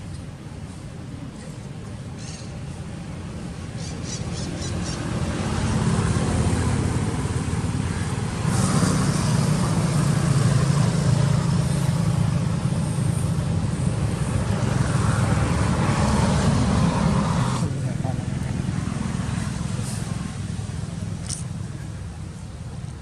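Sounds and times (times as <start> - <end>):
motor vehicle engine drone: 0.0 - 23.0.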